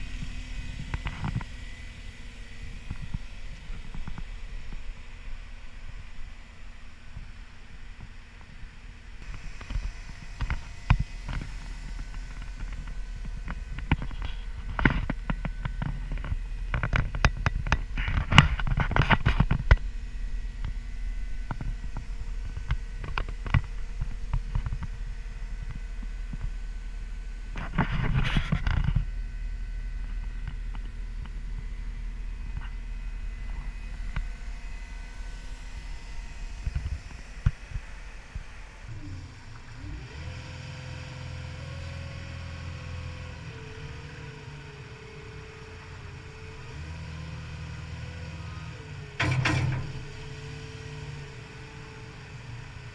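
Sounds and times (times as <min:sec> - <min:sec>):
diesel engine humming: 0:00.0 - 0:52.9.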